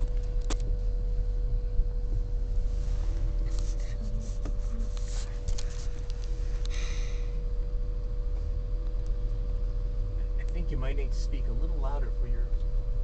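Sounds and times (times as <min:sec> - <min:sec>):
steady faint tone: 0:00.0 - 0:12.3
car cabin rumble: 0:00.0 - 0:13.0.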